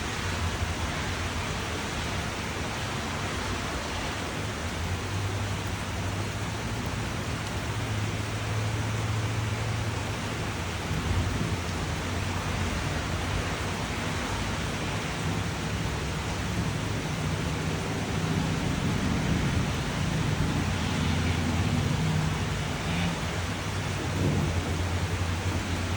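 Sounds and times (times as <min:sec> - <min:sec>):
steady rain: 0:00.0 - 0:25.9.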